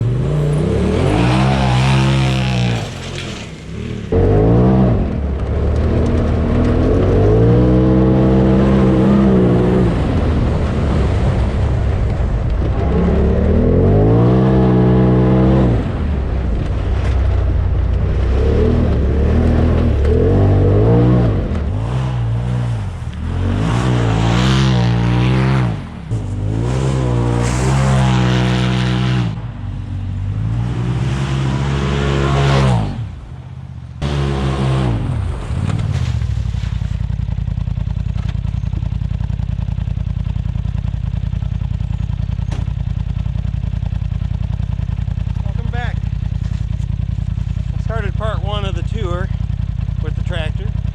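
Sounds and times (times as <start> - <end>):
turbo engine revving: 0.0 - 33.4, 34.0 - 50.9.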